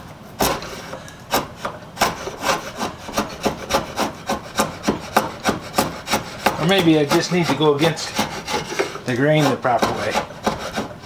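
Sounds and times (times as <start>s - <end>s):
draw knife scraping wood: 0.4s - 11.0s.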